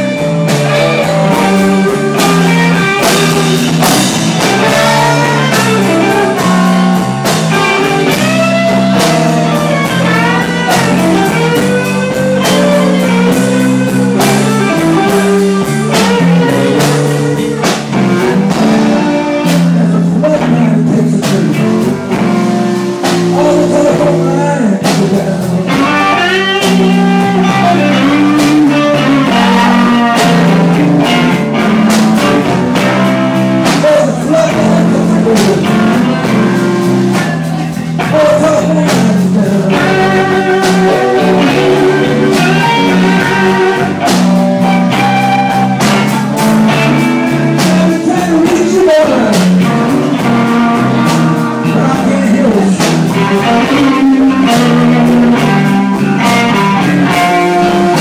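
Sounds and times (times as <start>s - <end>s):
blues band playing: 0.0s - 58.0s
electric guitar bending notes: 0.0s - 58.0s.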